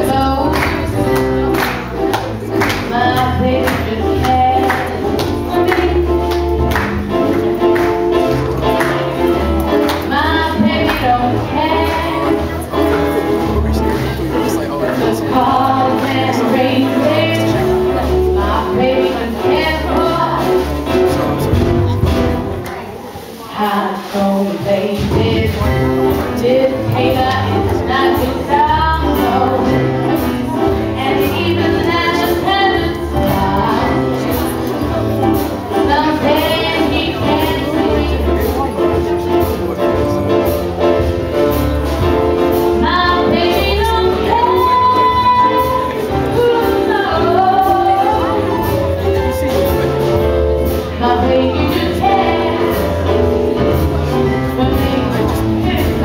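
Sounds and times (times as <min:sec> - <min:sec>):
woman singing jazz with vibrato: 0:00.0 - 0:13.5, 0:14.9 - 0:21.1, 0:23.4 - 0:39.1, 0:42.0 - 0:56.0
acoustic guitar: 0:00.0 - 0:56.0
grand piano: 0:00.0 - 0:56.0.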